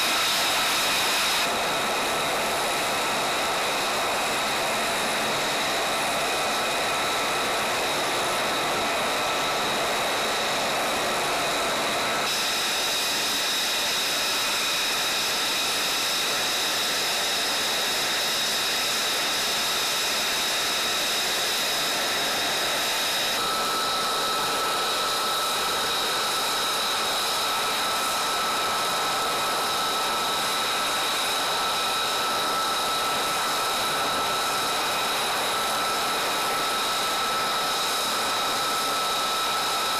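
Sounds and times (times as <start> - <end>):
jet engine idling with high whine: 0.0 - 39.9.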